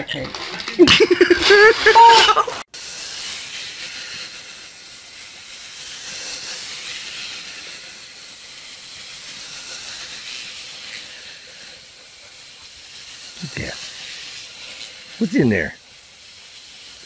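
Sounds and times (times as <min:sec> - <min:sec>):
steady high-pitched hiss: 0:00.3 - 0:17.0.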